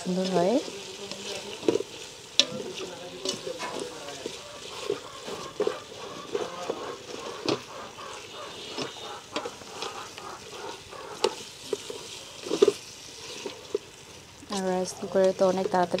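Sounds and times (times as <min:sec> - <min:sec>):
sauce sizzling: 0:00.0 - 0:16.0
spatula scraping pot: 0:00.0 - 0:16.0.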